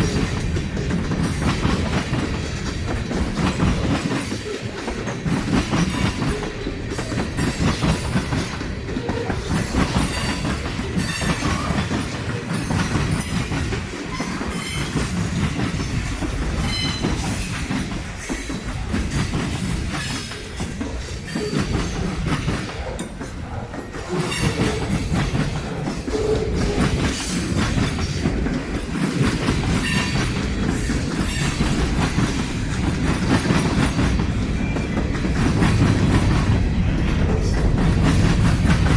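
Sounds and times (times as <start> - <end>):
train wheels clacking over rails: 0.0 - 38.9.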